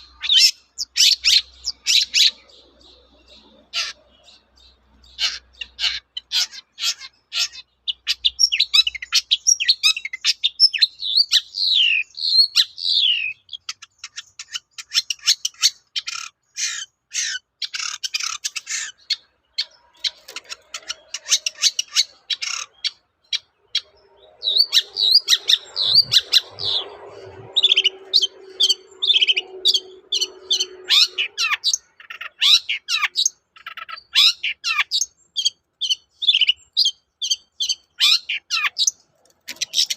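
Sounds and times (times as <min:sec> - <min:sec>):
bird singing harsh chattering song: 0:00.0 - 0:39.9.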